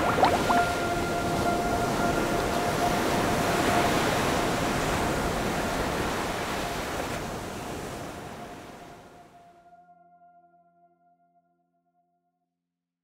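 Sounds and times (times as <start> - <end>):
ambient music held tones: 0.0 - 10.8.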